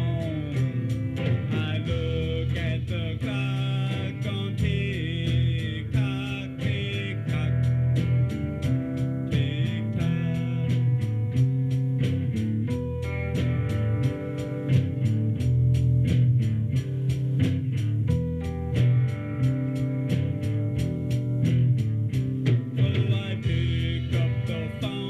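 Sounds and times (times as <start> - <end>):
guitar music: 0.0 - 25.0
steady ticking beat: 0.0 - 25.0.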